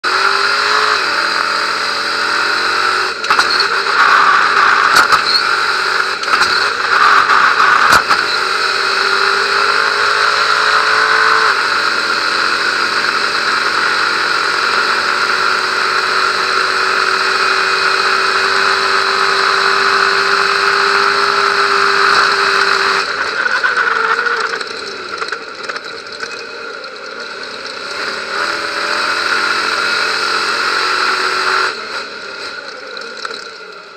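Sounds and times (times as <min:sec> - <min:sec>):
racing engine under throttle: 0:00.0 - 0:33.9.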